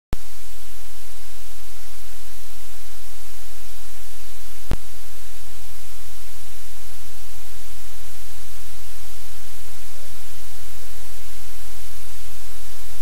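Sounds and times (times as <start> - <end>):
low electrical hum: 0.2 - 13.0
static hiss: 0.2 - 13.0.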